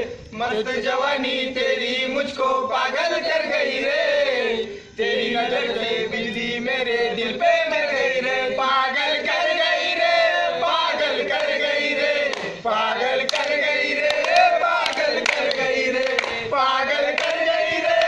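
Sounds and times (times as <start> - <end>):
young men singing in unison: 0.0 - 18.0.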